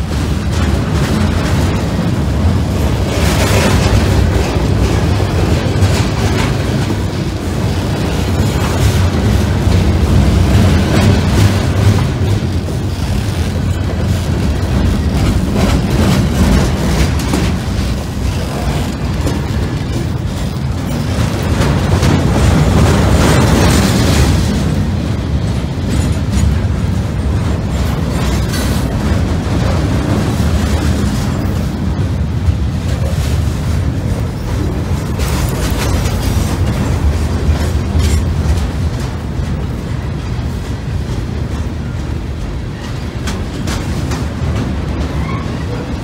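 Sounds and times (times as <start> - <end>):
clicks and clanks of train cars: 0.0 - 46.0
freight train rumbling past: 0.0 - 46.0.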